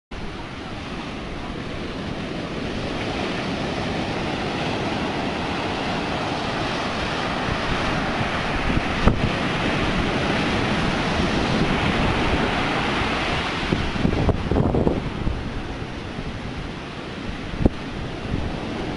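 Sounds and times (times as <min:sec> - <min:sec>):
surf breaking on beach: 0:00.2 - 0:18.9
wind buffeting microphone: 0:00.2 - 0:18.9.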